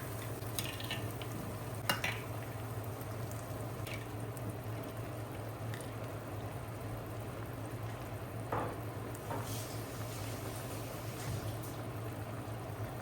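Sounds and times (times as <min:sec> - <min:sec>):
low constant hum: 0:00.0 - 0:13.0
water boiling: 0:00.0 - 0:13.0.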